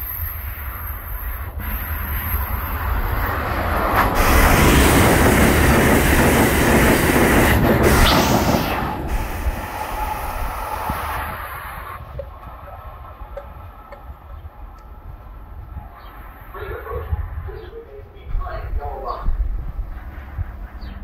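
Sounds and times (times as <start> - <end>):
high-speed train passing: 0.0 - 21.0.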